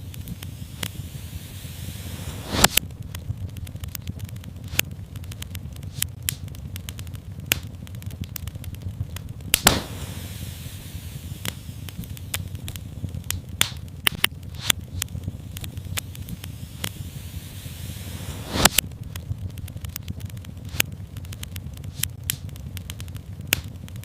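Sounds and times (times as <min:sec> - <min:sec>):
fire crackling: 0:00.0 - 0:24.0
low rumble of flames: 0:00.0 - 0:24.0
sharp pops of fire: 0:00.0 - 0:24.0.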